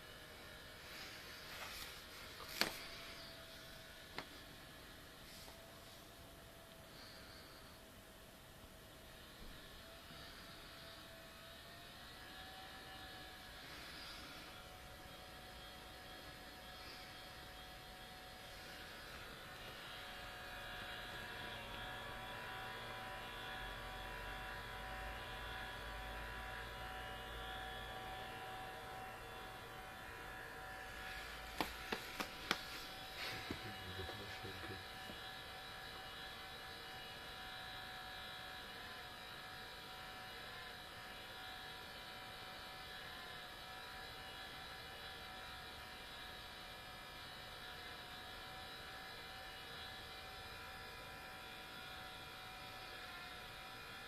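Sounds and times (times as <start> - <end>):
laptop cooling fan whine: 0.0 - 54.0.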